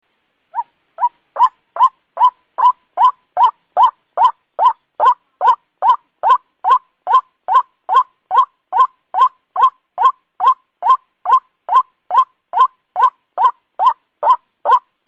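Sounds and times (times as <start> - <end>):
waterhen calling: 0.5 - 15.0.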